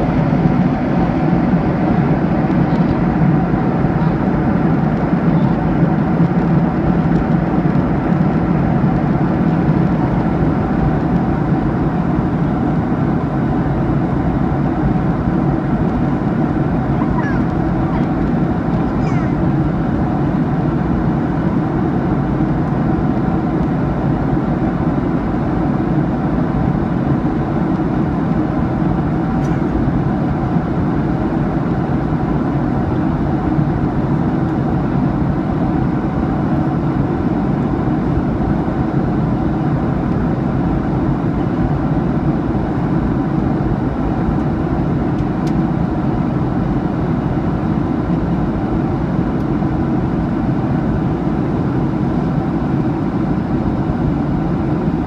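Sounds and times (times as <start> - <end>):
jet engine drone: 0.0 - 55.0.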